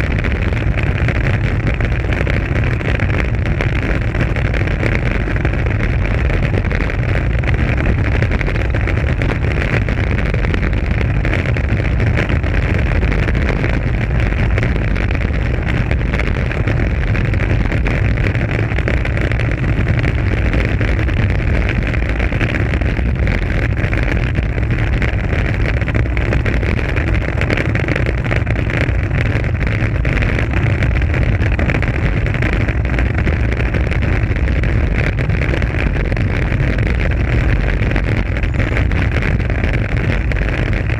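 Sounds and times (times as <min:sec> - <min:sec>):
wind noise on microphone: 0:00.0 - 0:40.9.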